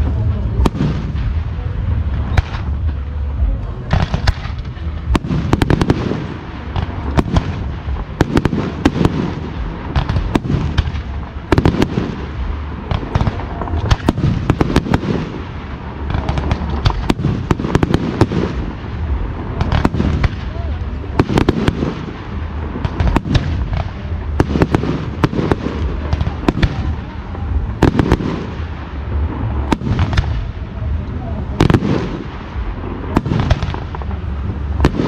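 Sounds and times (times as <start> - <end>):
firework bangs: 0.0 - 35.0
low rumble: 0.0 - 35.0.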